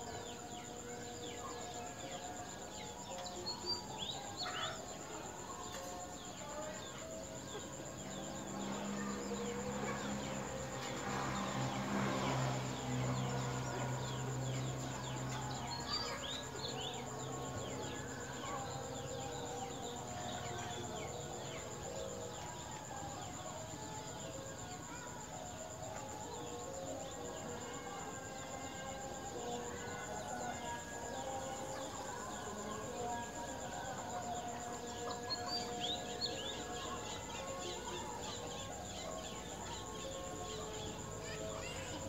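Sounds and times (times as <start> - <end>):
cricket trill: 0.0 - 42.0
insect chirps: 0.0 - 42.0.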